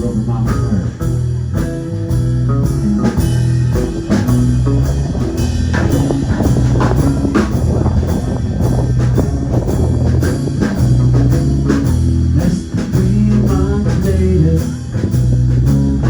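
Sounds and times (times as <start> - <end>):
bass guitar: 0.0 - 16.0
drum kit beat: 0.0 - 16.0
electric guitar: 0.0 - 16.0
live band playing: 0.0 - 16.0.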